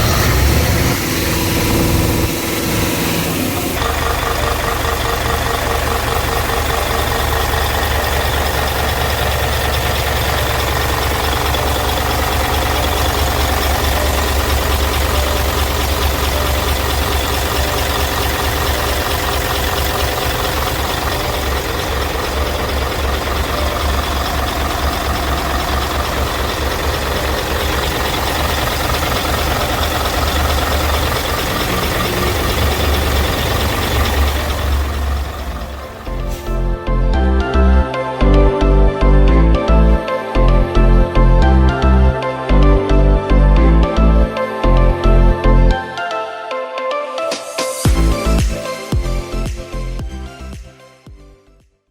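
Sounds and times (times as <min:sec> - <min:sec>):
diesel engine idling: 0:00.0 - 0:45.8, 0:47.9 - 0:50.2.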